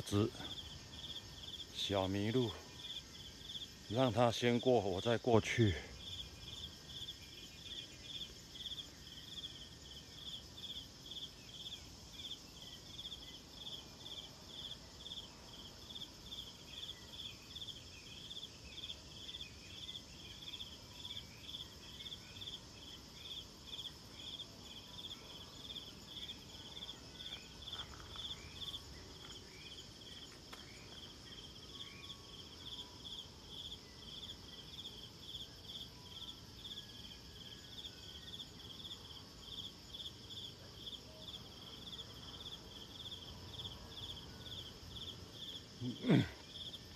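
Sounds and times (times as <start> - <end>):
insects pulsed chirping: 0.0 - 46.9.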